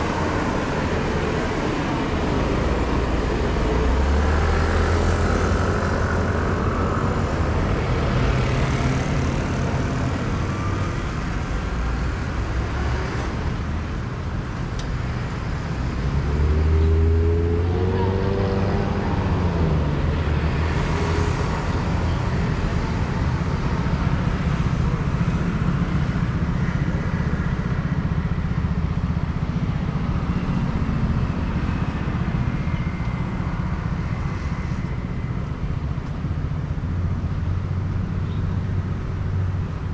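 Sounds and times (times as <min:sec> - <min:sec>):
cars and scooters passing: 0:00.0 - 0:39.9.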